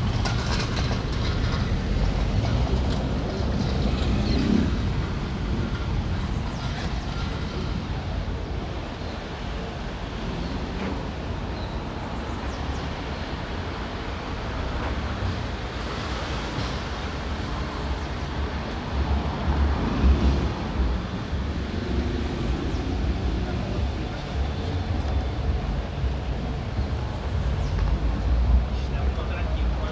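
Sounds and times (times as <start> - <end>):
passing traffic: 0.0 - 29.9.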